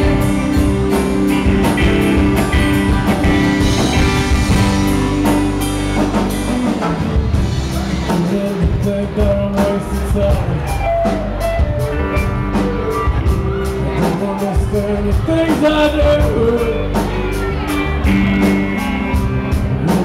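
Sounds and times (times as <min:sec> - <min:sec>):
drum kit beat: 0:00.0 - 0:20.0
electric guitar: 0:00.0 - 0:20.0.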